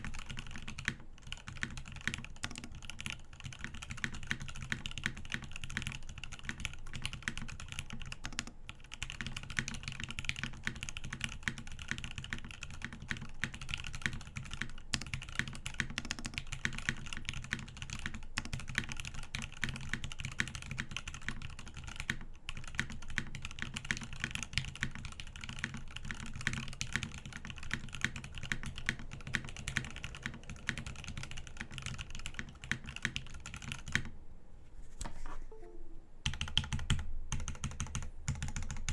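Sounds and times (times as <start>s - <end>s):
typing on mechanical keyboard: 0.0s - 34.1s, 36.2s - 38.9s.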